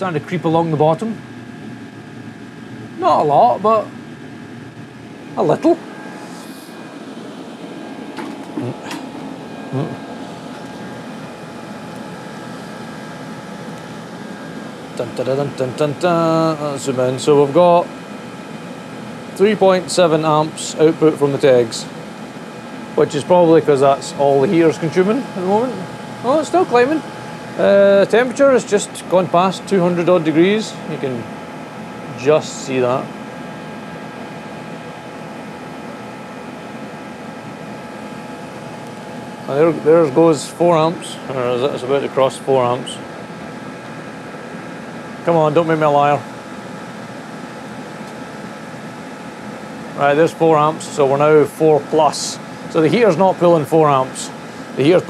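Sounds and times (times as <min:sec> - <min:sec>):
faint steady hum: 0:00.0 - 0:55.0
heater blower and burner rush: 0:00.0 - 0:55.0
faint whining tones: 0:00.8 - 0:55.0.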